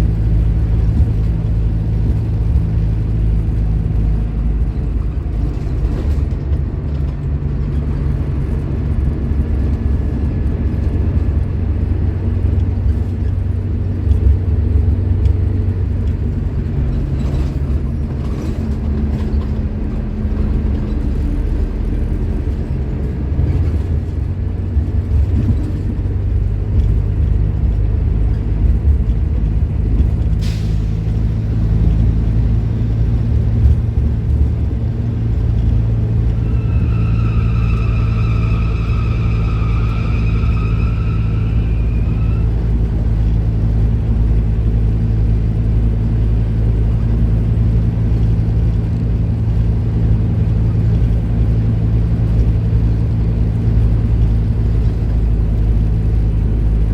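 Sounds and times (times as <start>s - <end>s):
bus diesel engine drone: 0.0s - 56.9s.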